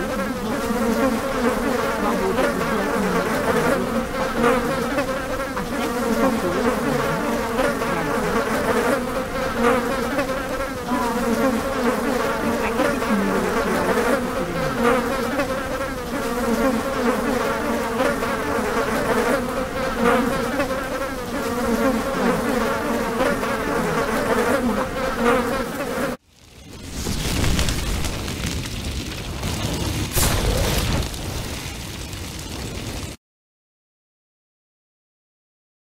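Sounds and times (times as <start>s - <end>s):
swarm of insects buzzing: 0.0s - 33.2s.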